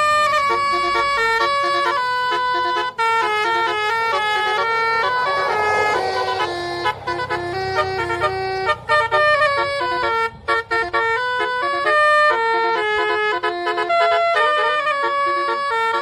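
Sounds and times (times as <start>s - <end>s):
bus engine rumbling: 0.0s - 16.0s
musical bus air horns: 0.0s - 16.0s.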